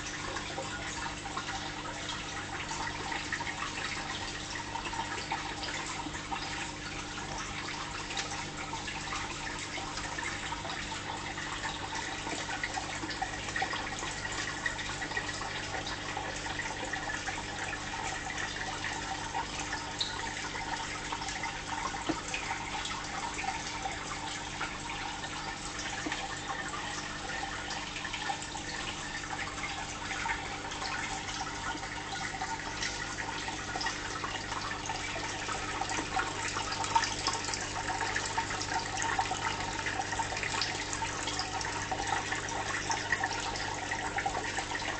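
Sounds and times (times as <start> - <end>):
water trickling and bubbling: 0.0 - 44.9
small drips and pops: 0.1 - 44.9.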